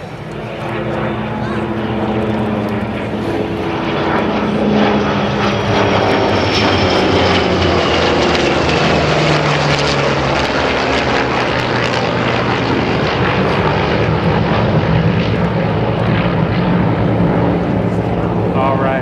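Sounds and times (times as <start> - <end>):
radial piston engines droning: 0.0 - 19.0.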